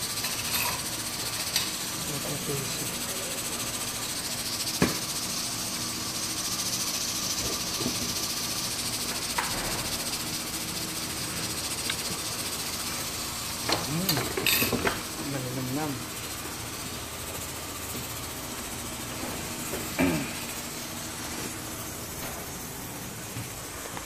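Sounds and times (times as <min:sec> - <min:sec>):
kitchen hiss: 0:00.0 - 0:24.0.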